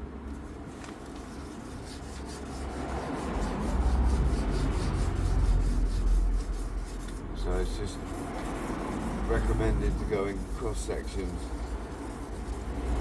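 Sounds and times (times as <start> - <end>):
sandpaper rubbing a panel: 1.0 - 13.0.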